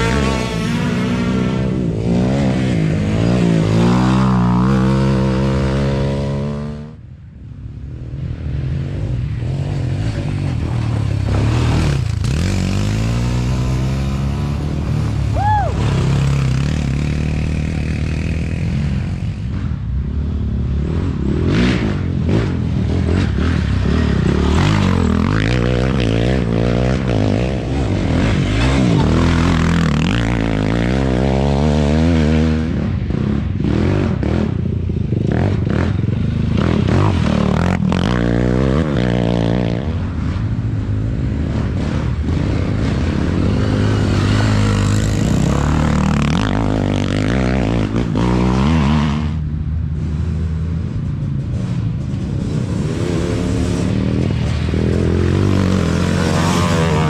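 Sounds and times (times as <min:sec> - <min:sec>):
quad engines revving past: 0:00.0 - 0:07.0, 0:08.6 - 0:57.0.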